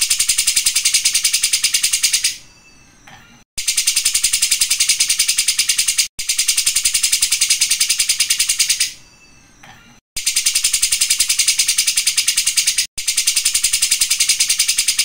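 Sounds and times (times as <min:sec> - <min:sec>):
bird singing buzzy trill: 0:00.0 - 0:09.6, 0:10.2 - 0:15.0.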